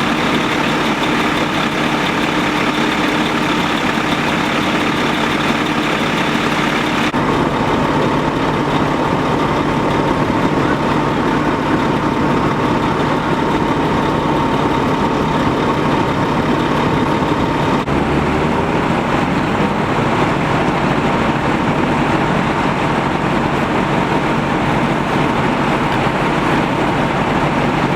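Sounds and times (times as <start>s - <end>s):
large vehicle engine idling: 0.0s - 27.9s.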